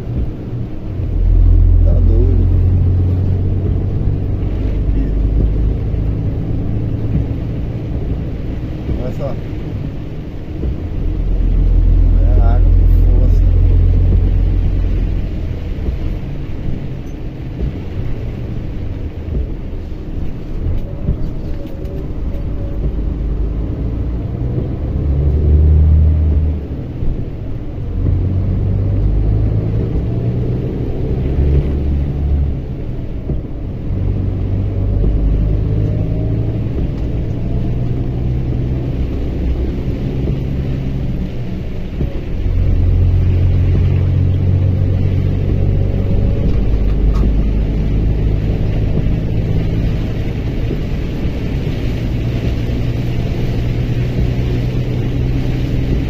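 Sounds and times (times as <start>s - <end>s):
road noise: 0.0s - 56.0s
truck diesel engine running: 0.0s - 56.0s.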